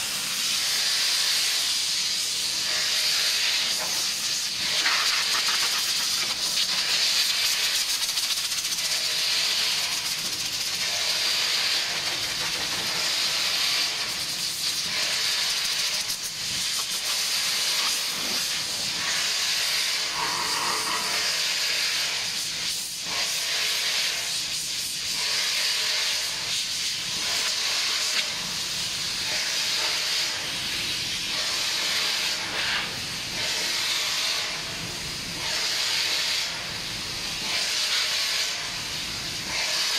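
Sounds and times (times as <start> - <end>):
compressed air hissing from blow gun: 0.0 - 39.9.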